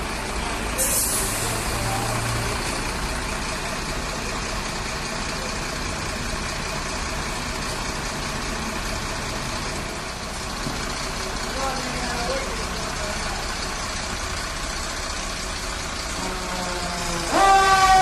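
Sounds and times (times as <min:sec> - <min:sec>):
fire truck engine idling: 0:00.0 - 0:18.0.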